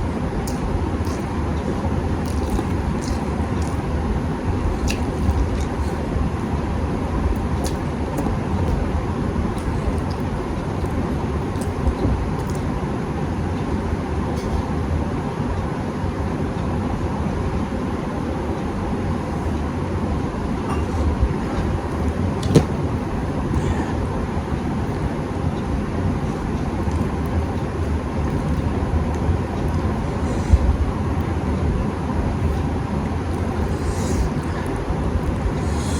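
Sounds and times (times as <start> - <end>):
low rumbling background noise: 0.0 - 35.9.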